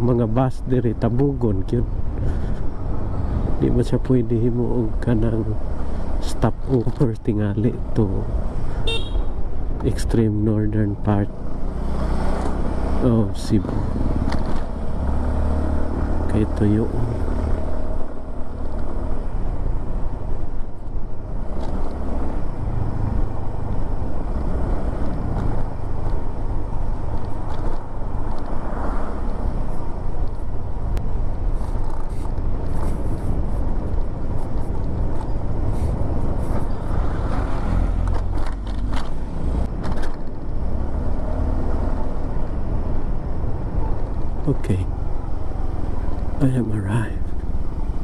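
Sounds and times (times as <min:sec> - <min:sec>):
vehicle road noise rumble: 0:00.0 - 0:48.0.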